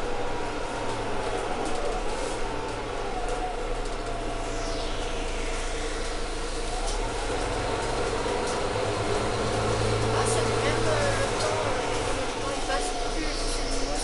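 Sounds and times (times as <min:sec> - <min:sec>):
bus drivetrain and road rumble: 0:00.0 - 0:14.0
faint whine falling in pitch: 0:00.0 - 0:14.0.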